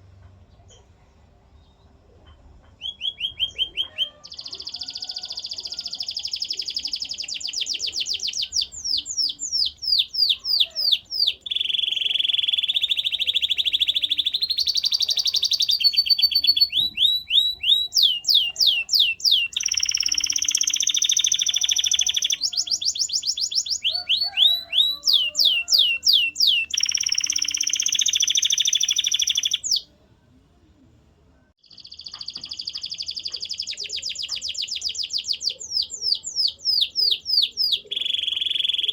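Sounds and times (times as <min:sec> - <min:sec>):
canary singing trills: 0:02.7 - 0:29.9, 0:31.6 - 0:38.9.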